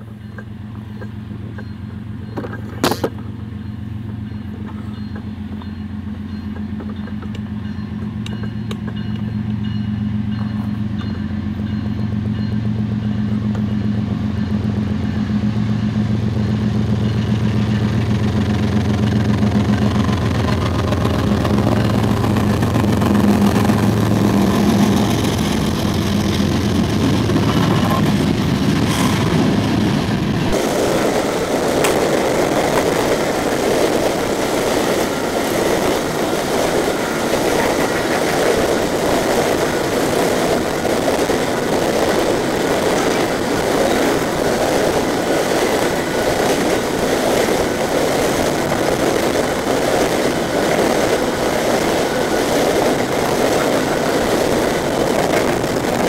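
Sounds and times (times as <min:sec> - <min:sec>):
diesel locomotive engine drone: 0:00.0 - 0:56.0
rumble of rail cars passing: 0:00.0 - 0:56.0.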